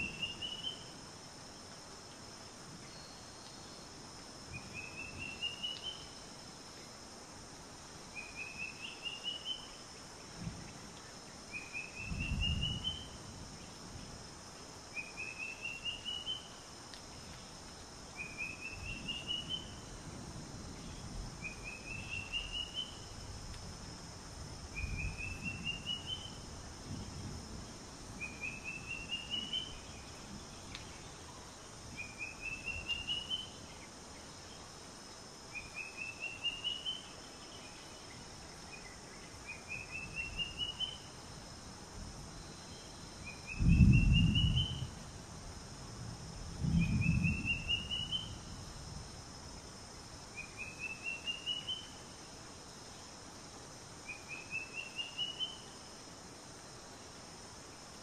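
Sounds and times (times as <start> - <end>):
high insect hiss: 0.0 - 58.0.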